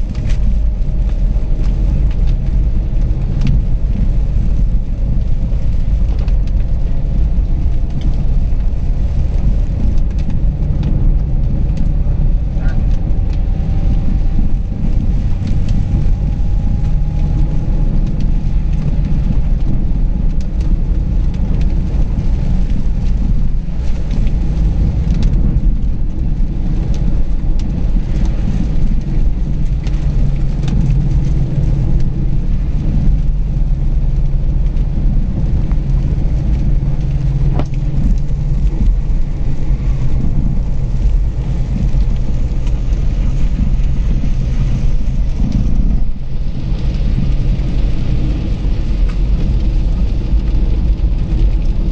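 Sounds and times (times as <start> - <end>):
engine and tyres rumbling on wet road: 0.0 - 51.9
rain on windscreen: 0.0 - 51.9.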